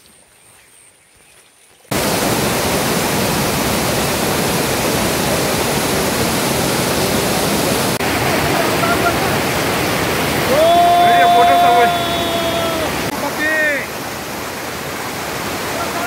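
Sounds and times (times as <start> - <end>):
waterfall rushing: 1.9 - 16.0.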